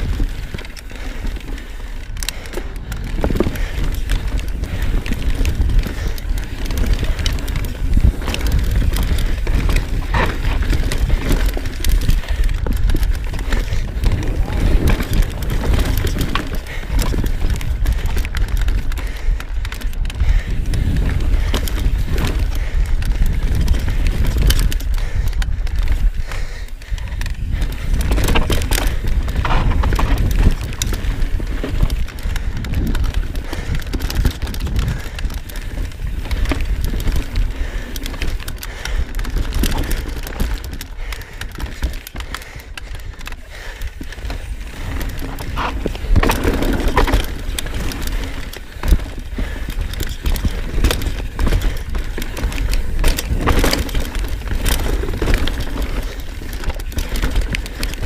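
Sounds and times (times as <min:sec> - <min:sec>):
bike chain and frame clattering: 0:00.0 - 0:58.0
bike tyres crunching on dirt trail: 0:00.0 - 0:58.0
wind rumble on microphone: 0:00.0 - 0:58.0.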